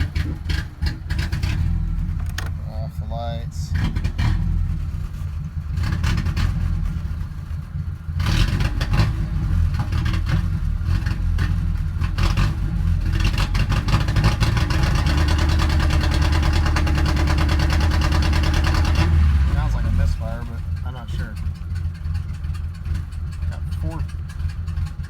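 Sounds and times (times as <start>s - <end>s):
engine running roughly: 0.0s - 25.0s.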